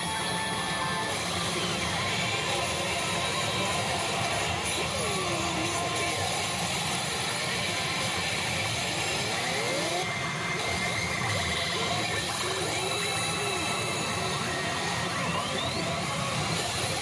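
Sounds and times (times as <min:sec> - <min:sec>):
gliding electronic effects: 0:00.0 - 0:17.0.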